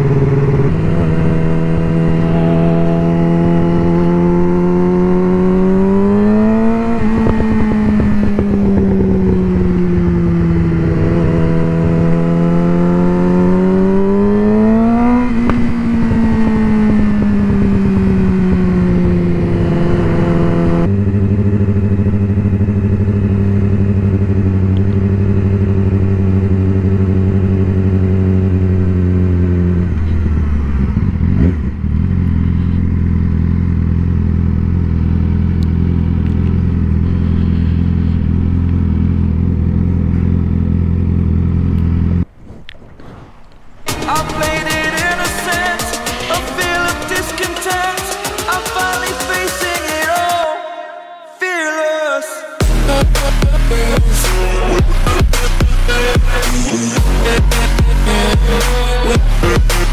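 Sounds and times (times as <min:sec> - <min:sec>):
sport bike engine revving: 0:00.0 - 0:42.3, 0:43.8 - 0:50.5, 0:52.6 - 0:59.9.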